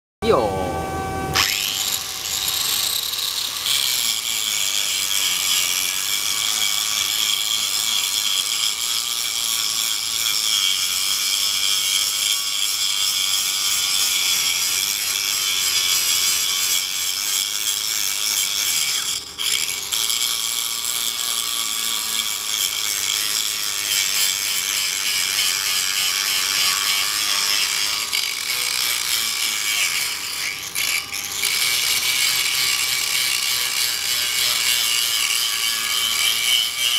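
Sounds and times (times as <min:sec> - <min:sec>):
angle grinder grinding steel: 0:00.3 - 0:36.9.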